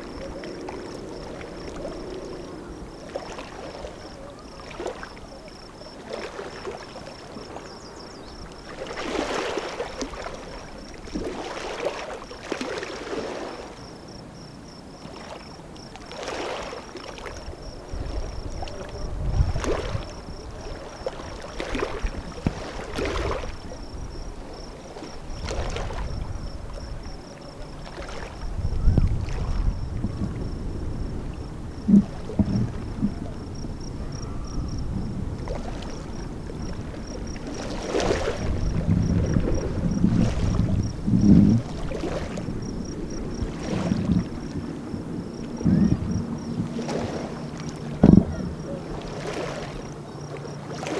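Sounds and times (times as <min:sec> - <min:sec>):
wind rumbling on microphone: 0:00.0 - 0:11.8, 0:17.2 - 0:50.1
small waves lapping on rocks: 0:00.0 - 0:30.6, 0:35.0 - 0:50.9.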